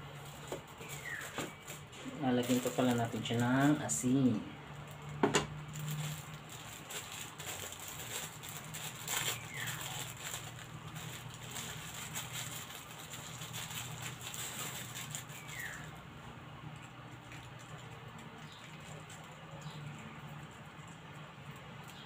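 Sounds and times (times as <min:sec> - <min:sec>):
low steady hum: 0:00.0 - 0:22.0
plastic bag crinkling: 0:00.0 - 0:22.0.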